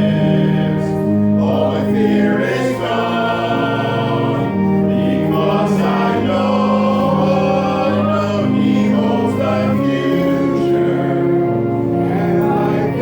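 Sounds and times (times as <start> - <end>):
congregation singing a hymn: 0.0 - 13.0.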